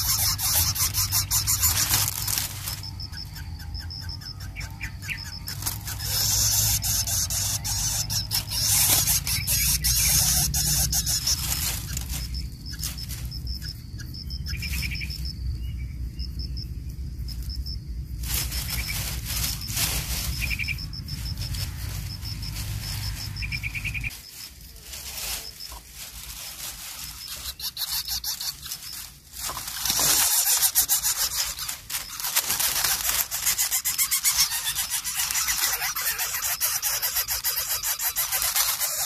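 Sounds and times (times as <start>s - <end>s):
rustling noise: 0.0s - 3.0s, 5.6s - 13.5s, 18.1s - 39.0s
insects chirping: 0.0s - 39.0s.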